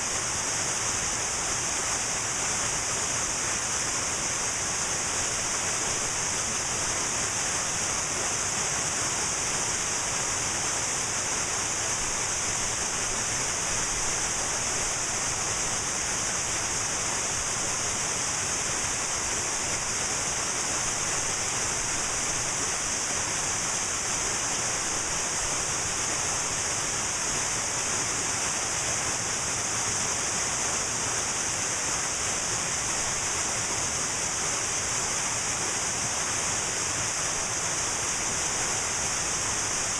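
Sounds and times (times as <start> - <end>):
waterfall rushing: 0.2 - 39.9.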